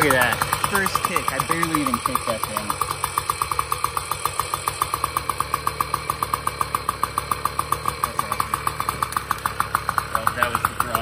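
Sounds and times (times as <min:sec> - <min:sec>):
moped engine idling: 0:00.0 - 0:11.0.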